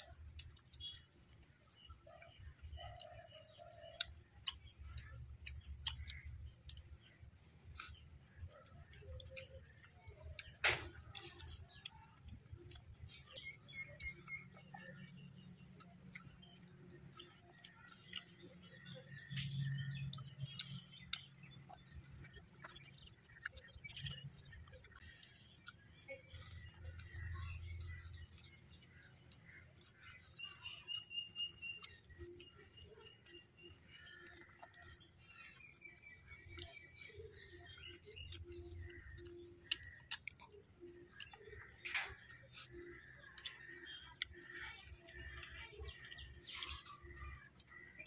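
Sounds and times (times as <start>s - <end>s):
chewing: 0.0s - 48.0s
mouth clicks and lip smacks: 0.0s - 48.0s.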